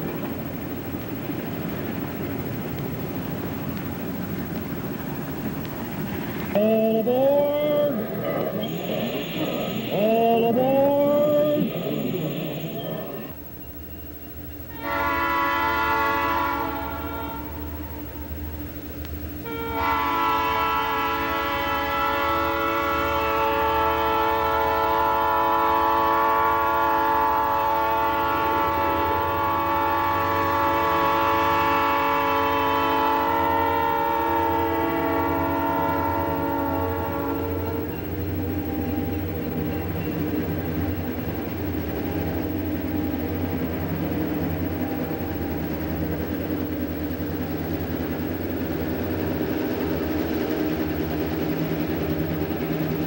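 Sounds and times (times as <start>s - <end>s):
train cars rolling rumble: 0.0s - 53.0s
shrill steady tone: 6.4s - 53.0s.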